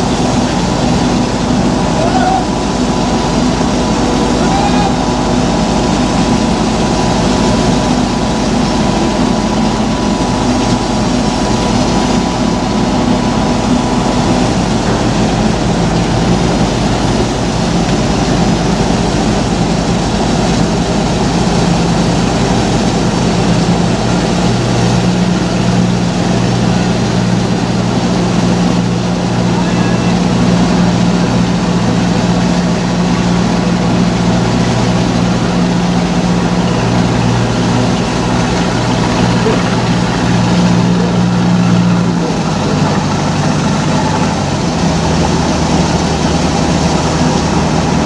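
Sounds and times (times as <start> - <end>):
boat engine humming: 0.0 - 48.0
wash of noise: 0.0 - 48.0.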